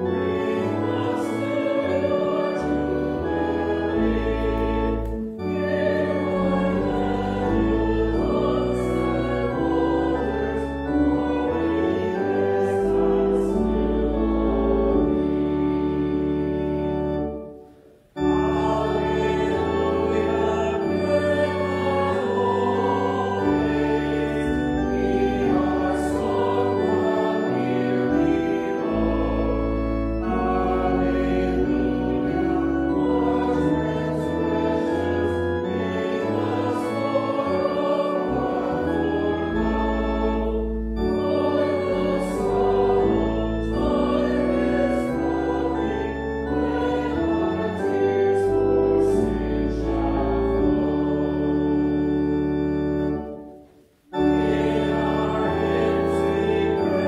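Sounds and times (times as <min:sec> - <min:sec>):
congregation singing a hymn: 0:00.0 - 0:57.0
organ chords: 0:00.0 - 0:57.0.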